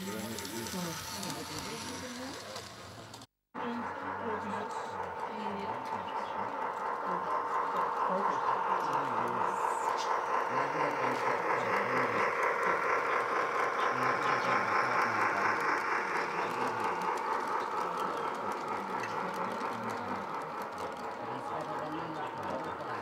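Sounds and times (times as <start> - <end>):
model train whine: 0.0 - 23.0
wheels clicking on track: 0.0 - 23.0.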